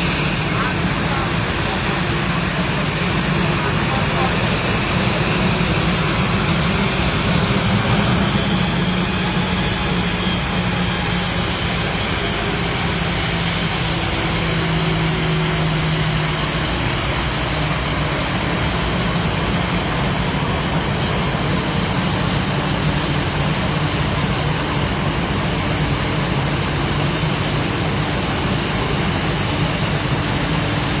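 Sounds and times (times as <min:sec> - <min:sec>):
loud engine hum: 0:00.0 - 0:31.0.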